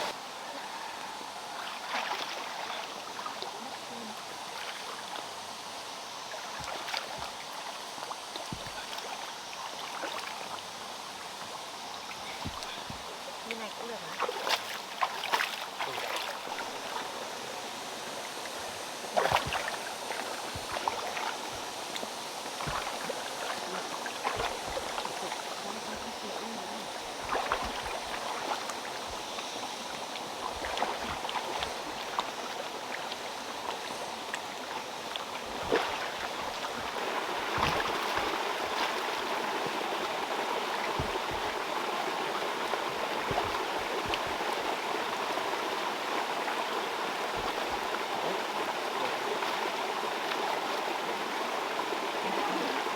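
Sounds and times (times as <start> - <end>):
water running: 0.0 - 52.9.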